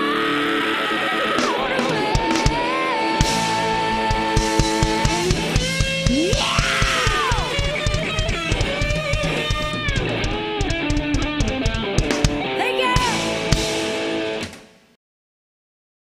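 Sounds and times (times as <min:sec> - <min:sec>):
electric guitar: 0:00.0 - 0:14.9
live rock band playing: 0:00.9 - 0:14.6.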